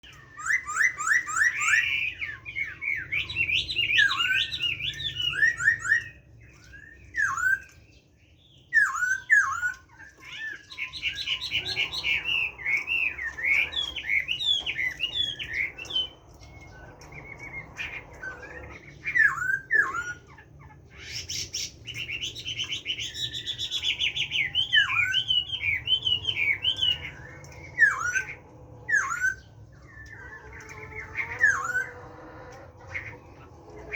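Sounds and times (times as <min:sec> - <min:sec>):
bird singing whistled notes: 0:00.0 - 0:20.4, 0:21.0 - 0:32.0.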